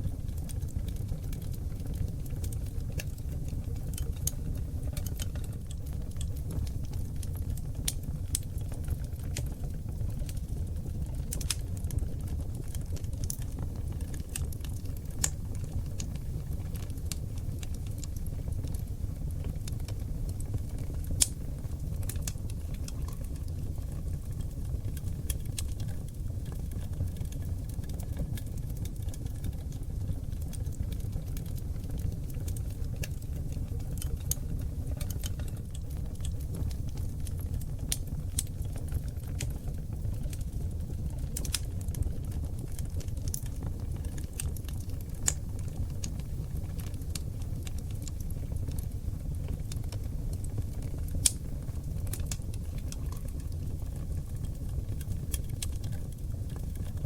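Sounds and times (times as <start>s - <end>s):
fire crackling and popping: 0.0s - 57.0s
fire rumbling: 0.0s - 57.0s.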